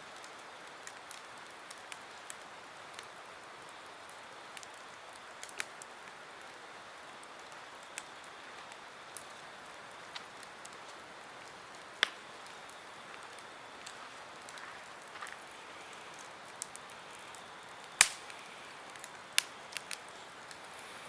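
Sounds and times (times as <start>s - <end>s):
campfire crackling and popping: 0.0s - 21.0s
soft hiss of burning: 0.0s - 21.0s.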